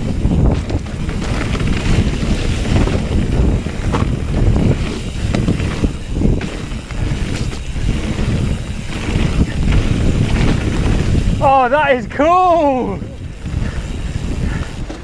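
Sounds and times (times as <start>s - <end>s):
bike knocks and rattles: 0.0s - 11.5s, 13.1s - 15.0s
tyres rumbling on trail: 0.0s - 15.0s
wind buffeting microphone: 0.0s - 15.0s.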